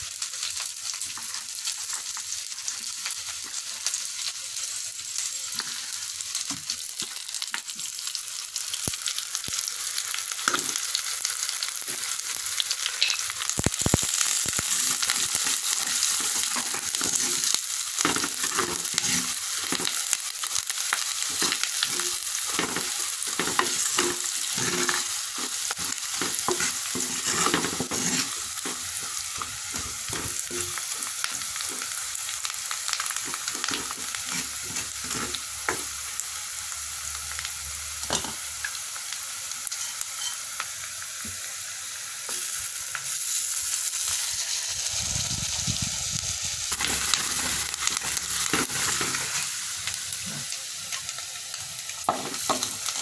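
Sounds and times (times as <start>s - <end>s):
food sizzling in hot oil: 0.0s - 53.0s.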